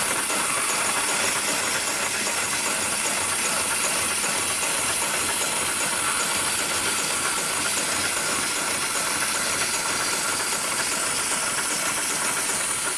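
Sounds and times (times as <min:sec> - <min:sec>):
sewing machine running: 0:00.0 - 0:12.9.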